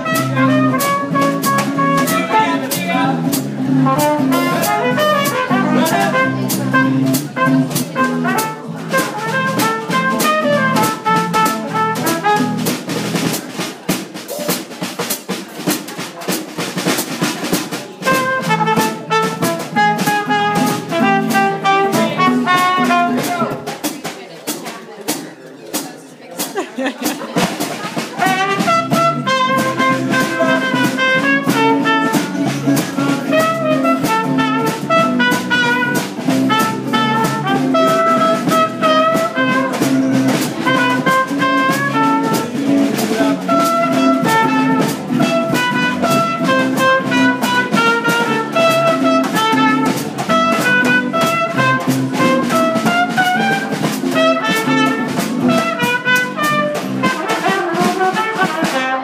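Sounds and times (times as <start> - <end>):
trumpet melody: 0.0 - 13.4, 18.0 - 23.7, 28.1 - 59.0
guitars: 0.0 - 13.5, 18.0 - 23.7, 27.2 - 57.2
small jazz combo playing: 0.0 - 59.0
steady drum beat: 0.0 - 59.0.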